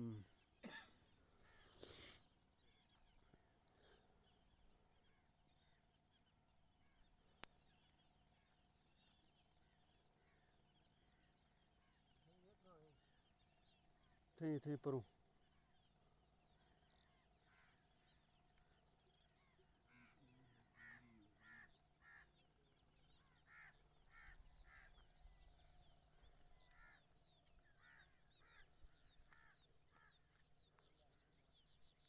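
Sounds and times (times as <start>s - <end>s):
faint harsh bird calls: 0.0s - 8.5s, 9.7s - 32.0s.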